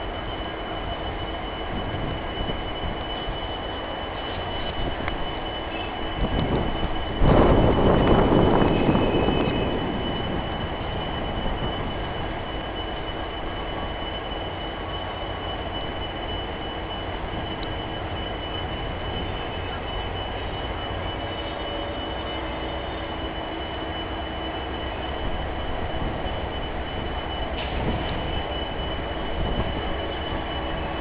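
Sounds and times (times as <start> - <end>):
high whine: 0.0 - 31.0
locomotive engine drone: 0.0 - 31.0.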